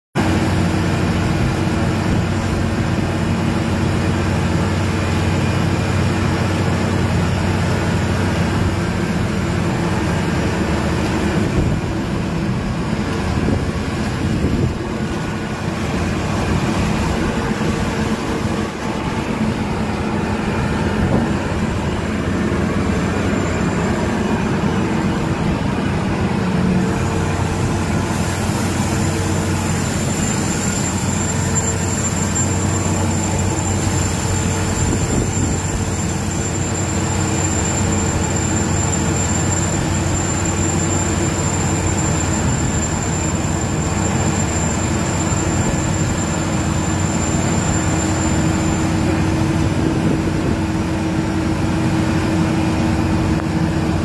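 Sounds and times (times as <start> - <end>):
diesel machinery droning: 0.2 - 54.0.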